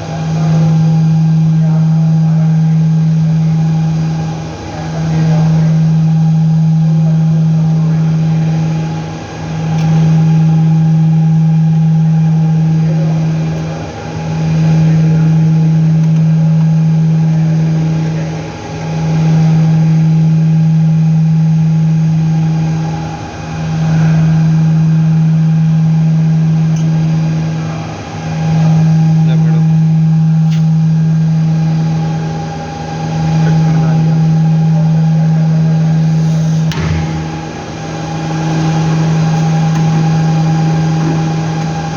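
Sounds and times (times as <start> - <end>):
low machine hum: 0.0 - 41.9.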